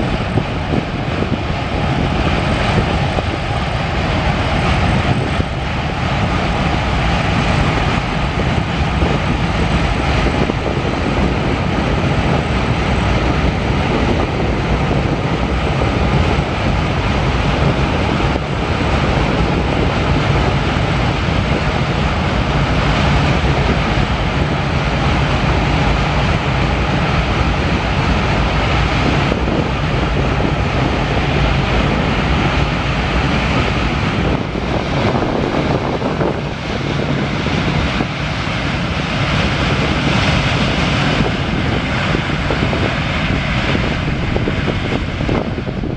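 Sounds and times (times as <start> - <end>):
train engine and wheels rumbling: 0.0 - 45.9.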